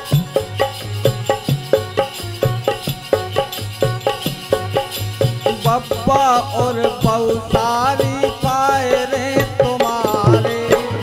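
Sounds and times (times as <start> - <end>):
dholak and tabla drumming: 0.0 - 11.0
harmonium and keyboard melody: 0.0 - 11.0.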